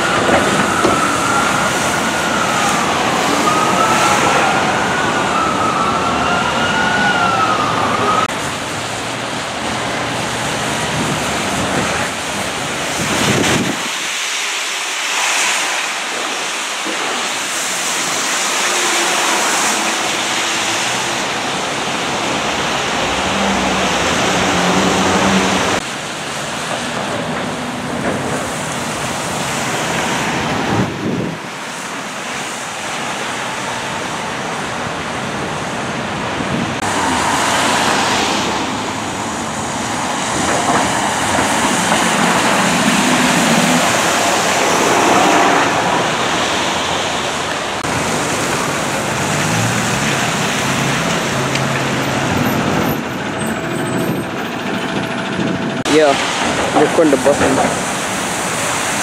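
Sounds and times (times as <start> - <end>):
bus engines running: 0.0 - 14.6, 16.1 - 59.0
tyres hissing on wet road: 0.0 - 54.3, 55.8 - 59.0.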